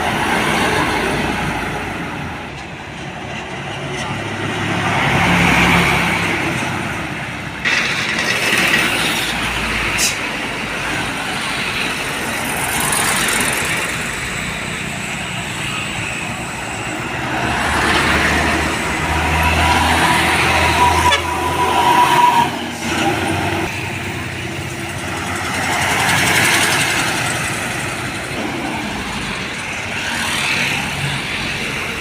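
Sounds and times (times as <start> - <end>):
heavy trucks passing: 0.0 - 32.0.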